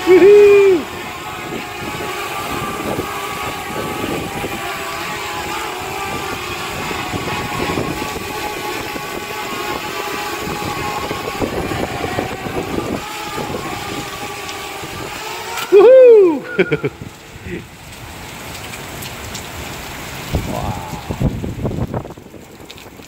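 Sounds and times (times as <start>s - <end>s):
drone propellers buzzing: 0.0s - 18.9s
heavy rain: 0.0s - 23.0s.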